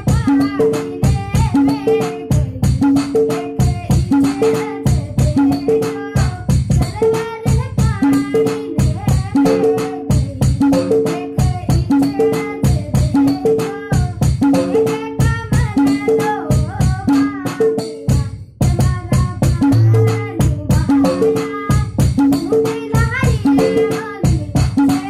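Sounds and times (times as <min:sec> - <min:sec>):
electronic drum pad rhythm: 0:00.0 - 0:25.0.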